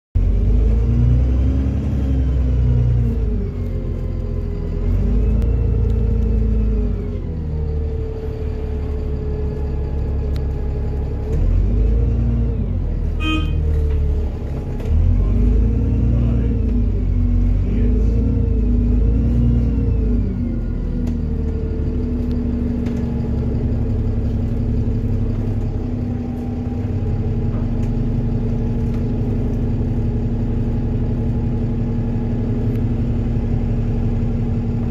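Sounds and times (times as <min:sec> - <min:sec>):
bus diesel engine rumble: 0:00.2 - 0:34.9.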